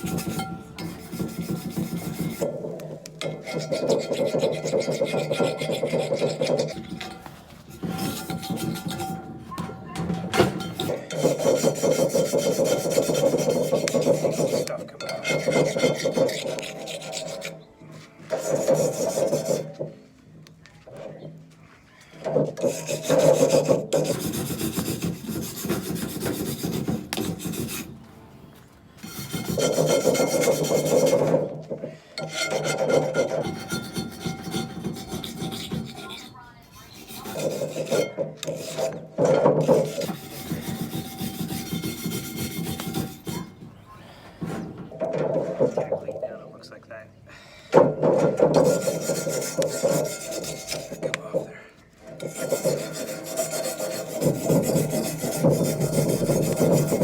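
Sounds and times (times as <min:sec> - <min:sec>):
wire brush scrubbing cast iron pan: 0:00.0 - 0:17.6, 0:18.3 - 0:19.8, 0:22.3 - 0:28.0, 0:29.0 - 0:31.6, 0:32.2 - 0:43.6, 0:48.1 - 0:57.0.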